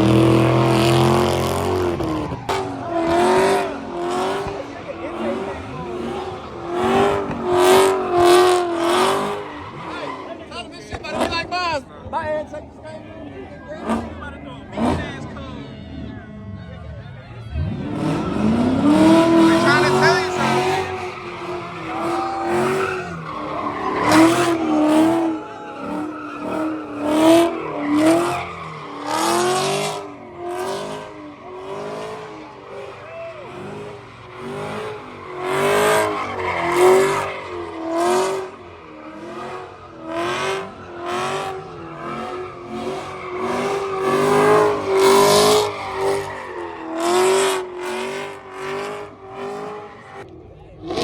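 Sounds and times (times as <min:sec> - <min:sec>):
car engine revving: 0:00.0 - 0:51.0
tires squealing: 0:00.0 - 0:51.0.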